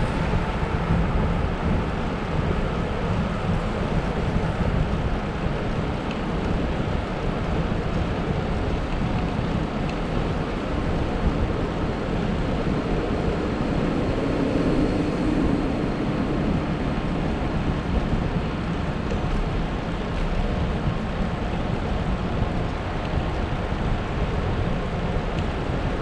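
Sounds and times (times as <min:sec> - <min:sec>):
low road rumble: 0:00.0 - 0:26.0
wind rushing over microphone: 0:00.0 - 0:26.0.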